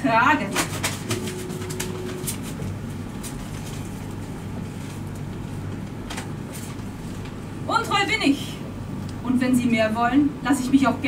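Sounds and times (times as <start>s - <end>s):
low hall hum: 0.0s - 11.0s.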